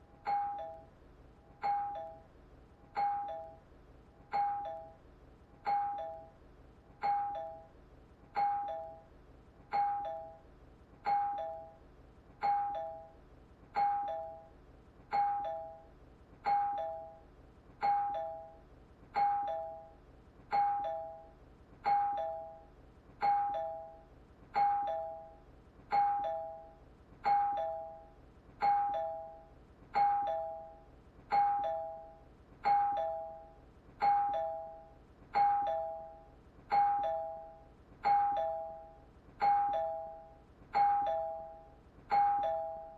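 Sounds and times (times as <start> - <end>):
doorbell ding-dong chime: 0.2 - 0.9, 1.6 - 2.3, 2.9 - 3.6, 4.3 - 5.0, 5.6 - 6.4, 7.0 - 7.7, 8.4 - 9.1, 9.7 - 11.8, 12.4 - 13.2, 13.8 - 18.6, 19.2 - 42.9.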